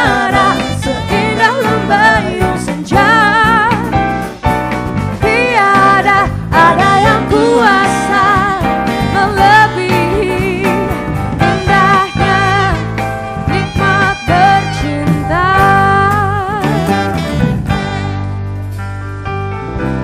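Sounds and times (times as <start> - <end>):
person singing with vibrato: 0.0 - 3.9, 5.2 - 17.3
instrumental accompaniment: 0.0 - 20.0.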